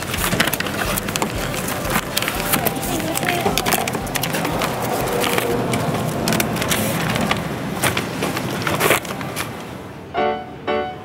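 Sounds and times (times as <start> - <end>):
paper wrapping crinkling: 0.0 - 9.8
busy shop background noise: 0.0 - 11.0.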